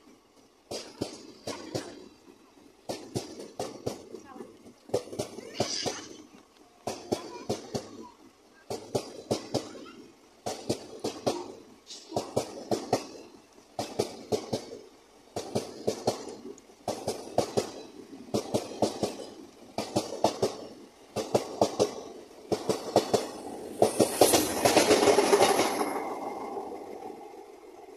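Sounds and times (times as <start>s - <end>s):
train rushing noise with high hiss: 0.0s - 27.9s
train wheels clattering over rail joints: 0.0s - 27.9s.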